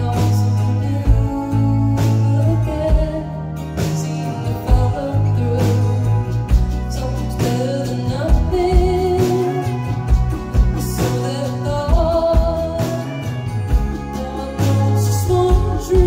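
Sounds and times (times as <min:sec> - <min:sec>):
live band music: 0:00.0 - 0:16.0
woman singing: 0:00.0 - 0:16.0.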